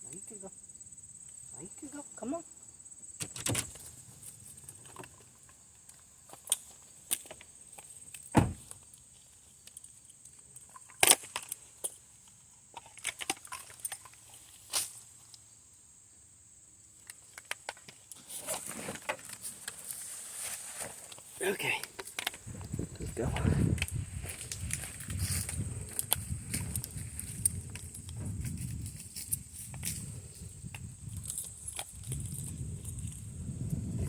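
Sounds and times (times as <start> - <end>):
high insect trill: 0.0 - 34.0.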